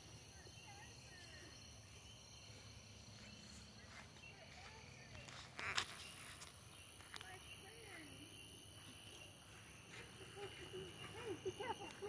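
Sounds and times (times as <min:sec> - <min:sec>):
insect hum: 0:00.0 - 0:12.0.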